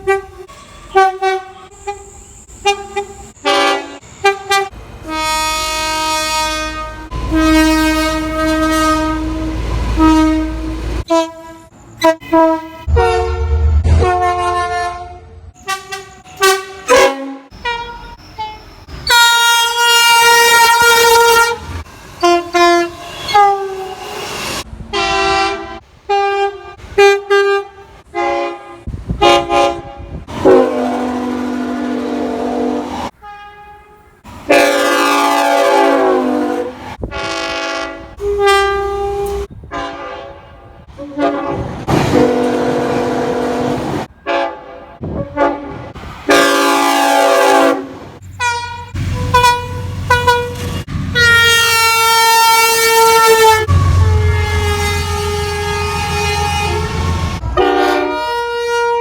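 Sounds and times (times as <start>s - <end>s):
train horn blasts: 0.0s - 59.0s.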